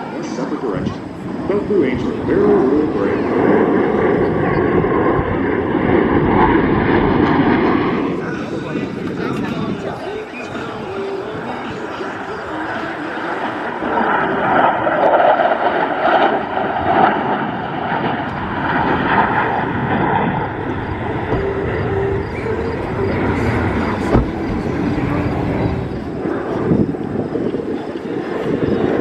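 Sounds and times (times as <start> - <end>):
jet engine noise: 0.0 - 29.0.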